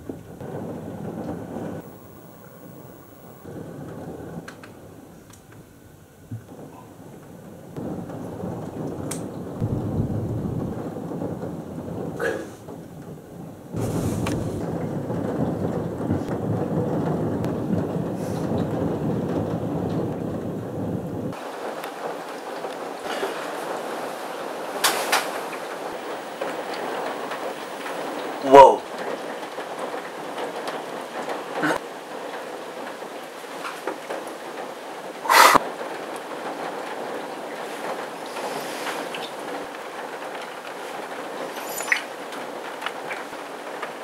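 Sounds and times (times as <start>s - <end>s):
steady rain: 0.0s - 44.0s
thunder rumbling: 0.0s - 44.0s.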